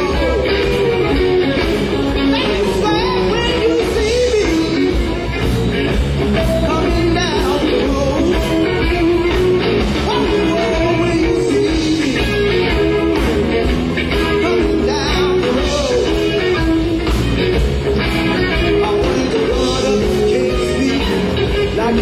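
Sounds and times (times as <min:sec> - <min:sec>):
bass guitar: 0:00.0 - 0:22.0
drums: 0:00.0 - 0:22.0
electric guitar: 0:00.0 - 0:22.0.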